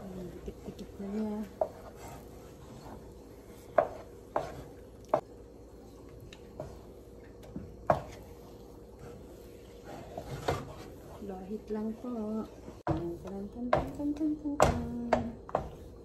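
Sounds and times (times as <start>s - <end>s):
wooden spoon stirring thick paste: 0.0s - 16.0s.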